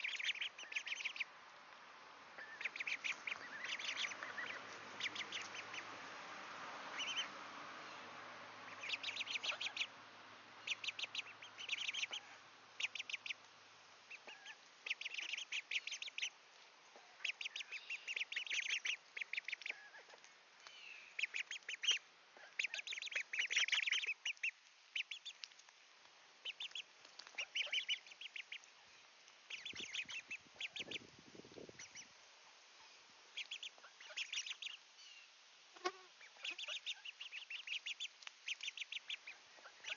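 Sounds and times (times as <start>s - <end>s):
ducklings peeping: 0.0s - 1.4s, 2.3s - 39.9s.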